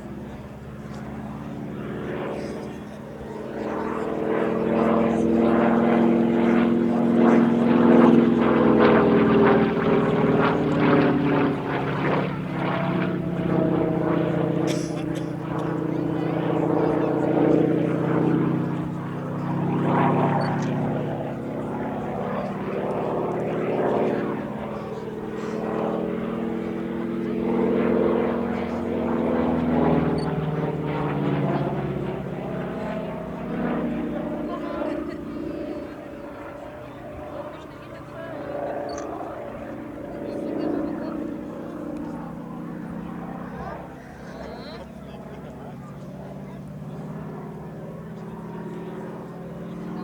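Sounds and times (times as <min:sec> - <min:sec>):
propeller aircraft flying past: 0:00.0 - 0:50.0.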